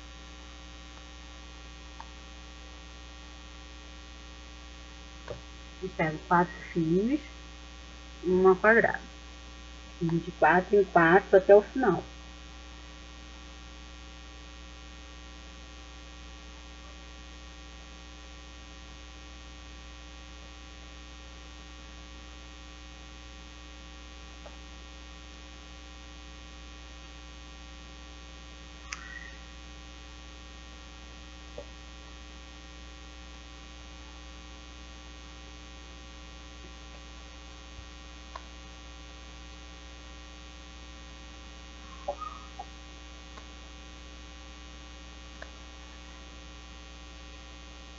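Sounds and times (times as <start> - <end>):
electrical mains hum: 0.0 - 47.9.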